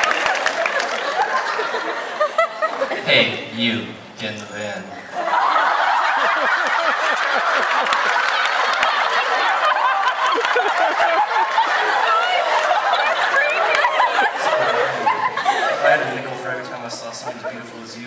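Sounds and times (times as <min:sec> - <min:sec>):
audience laughing: 0:00.0 - 0:03.4, 0:05.0 - 0:18.0.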